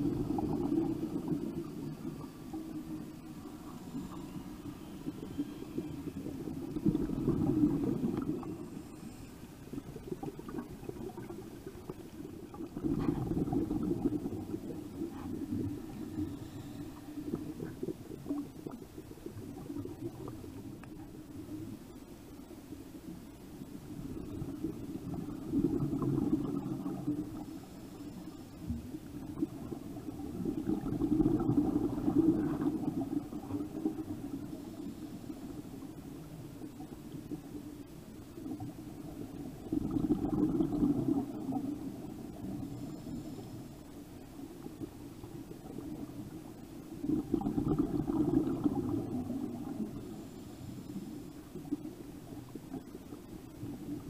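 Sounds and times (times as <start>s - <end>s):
exhaled bubbles gurgling underwater: 0.0s - 54.0s.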